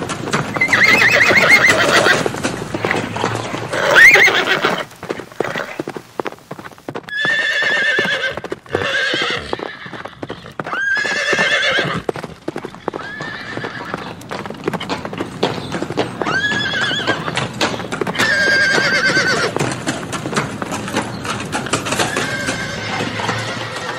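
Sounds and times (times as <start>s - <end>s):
galloping hoofbeats: 0.0s - 23.9s
horses whinnying: 0.0s - 23.9s.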